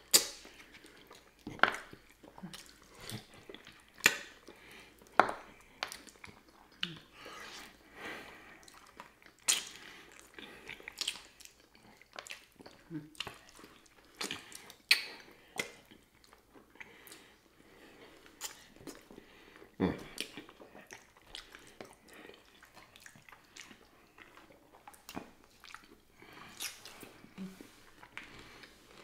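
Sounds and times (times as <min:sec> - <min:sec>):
lip smacks and sucking: 0:00.0 - 0:07.8, 0:08.6 - 0:17.4, 0:18.0 - 0:19.2, 0:20.0 - 0:29.0
wet chewing and mouth sounds: 0:00.0 - 0:29.0.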